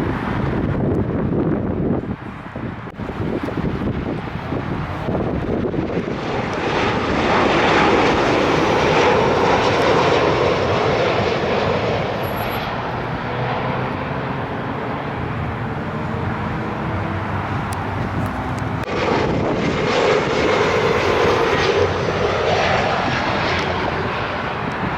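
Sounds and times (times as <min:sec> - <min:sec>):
airliner engines passing overhead: 0:00.0 - 0:24.9.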